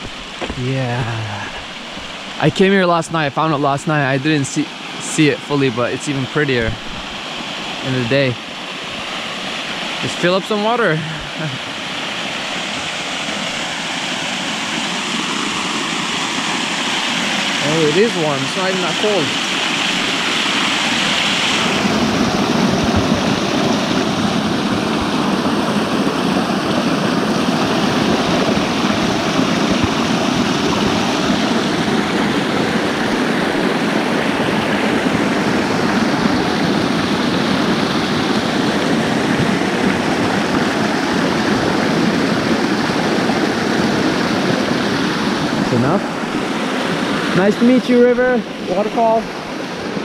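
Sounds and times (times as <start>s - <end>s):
waterfall splashing over rocks: 0.0s - 50.0s.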